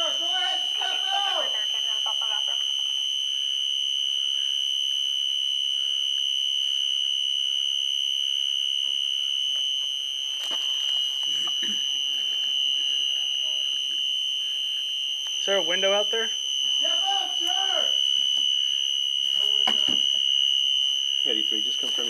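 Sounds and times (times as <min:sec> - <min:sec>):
high-pitched alarm tone: 0:00.0 - 0:22.0.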